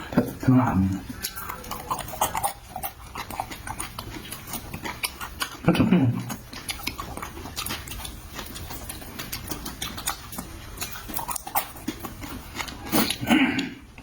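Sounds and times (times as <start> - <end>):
chewing with wet clicks: 0.2 - 14.0.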